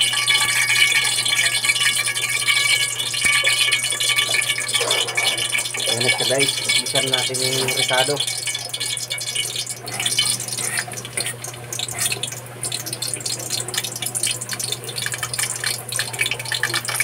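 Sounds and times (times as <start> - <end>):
garlic sizzling in hot oil: 0.0 - 17.0
low steady hum: 0.0 - 17.0.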